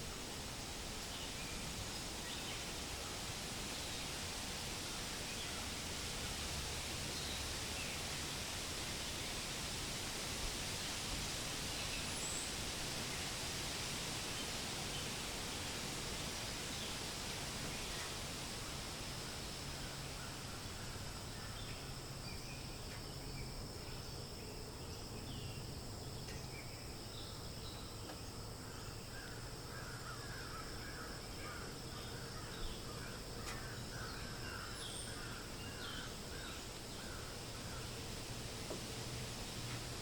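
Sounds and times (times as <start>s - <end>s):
wind through leaves: 0.0s - 40.0s.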